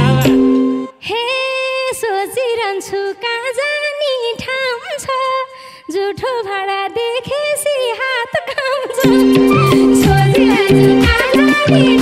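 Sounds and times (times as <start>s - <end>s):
woman singing folk song: 1.0s - 12.0s.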